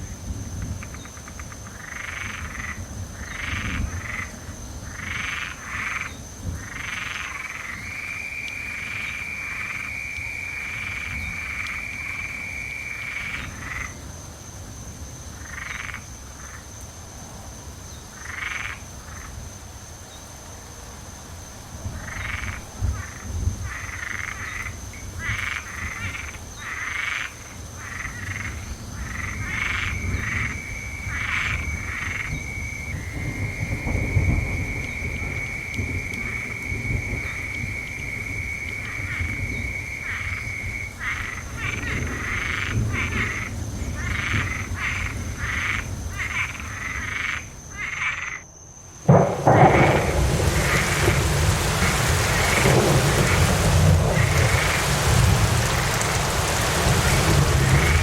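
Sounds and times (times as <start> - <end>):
frogs calling: 0.0 - 14.2, 15.2 - 16.9, 17.8 - 20.3, 21.8 - 58.0.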